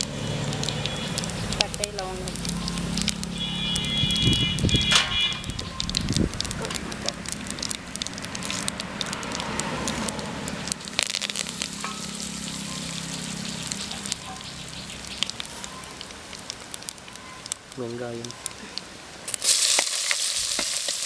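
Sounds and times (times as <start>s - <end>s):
spices sizzling in hot oil: 0.0s - 21.0s.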